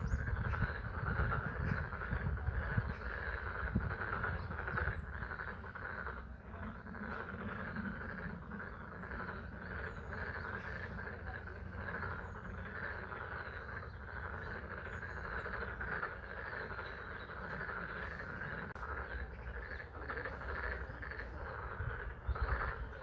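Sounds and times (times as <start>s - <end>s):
frogs calling: 0.0s - 23.0s.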